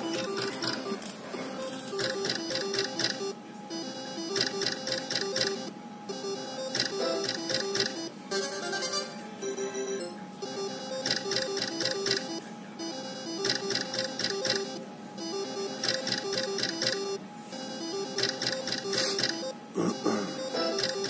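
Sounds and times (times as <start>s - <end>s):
slot machine reel spin ticking: 0.0s - 1.0s, 1.6s - 19.5s, 20.3s - 21.0s.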